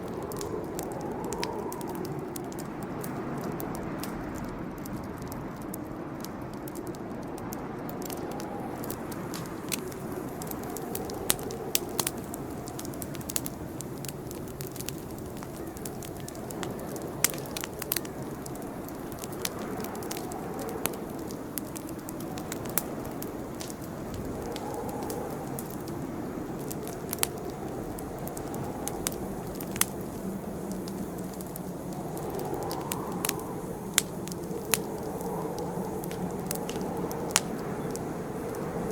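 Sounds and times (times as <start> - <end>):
campfire flames rushing: 0.0 - 38.9
fire crackling and popping: 0.0 - 38.9.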